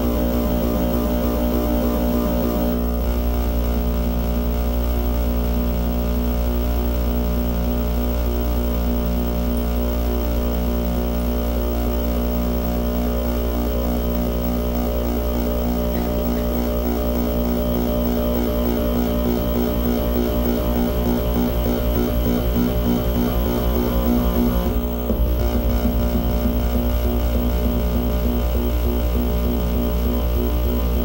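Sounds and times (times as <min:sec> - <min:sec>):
electronic noise drone: 0:00.0 - 0:31.0.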